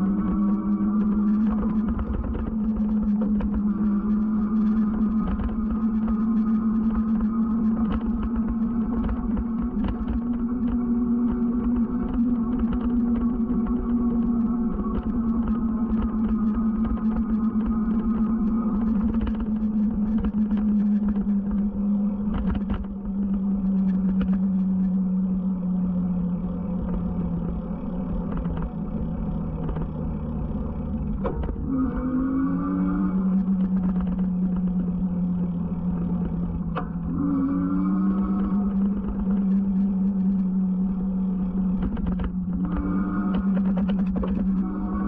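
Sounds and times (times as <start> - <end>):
electric bike motor hum: 0.0 - 45.0
gliding whines: 0.0 - 45.0
wind rumble on microphone: 0.0 - 45.0.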